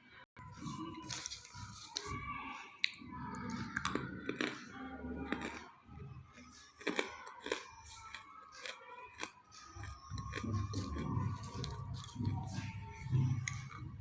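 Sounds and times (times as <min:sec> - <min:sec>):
crunching and chewing: 0:00.6 - 0:02.2, 0:02.8 - 0:14.0.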